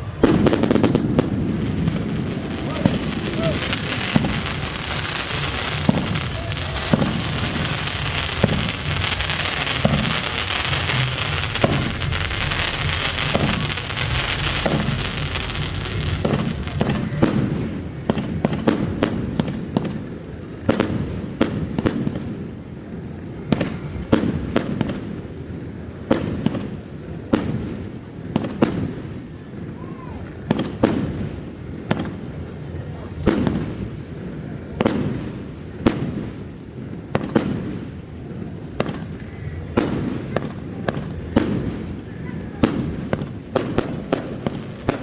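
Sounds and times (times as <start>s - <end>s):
fireworks crackling and banging: 0.0s - 45.0s.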